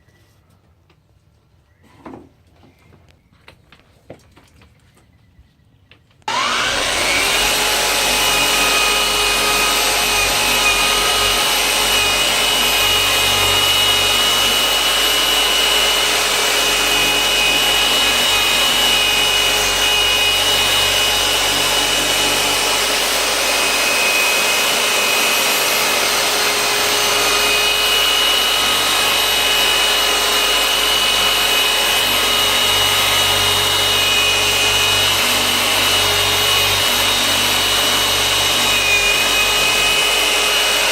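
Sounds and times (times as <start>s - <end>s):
electric power tool whining: 6.2s - 40.9s.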